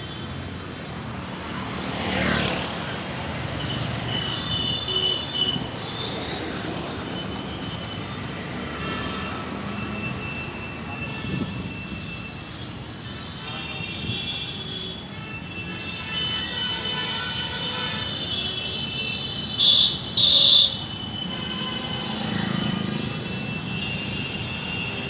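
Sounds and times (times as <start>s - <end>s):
engine and road noise: 0.0s - 25.0s.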